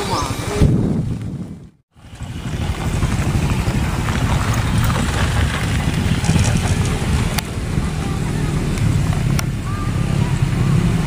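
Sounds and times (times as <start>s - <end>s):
diesel locomotive rumbling: 1.9s - 11.0s.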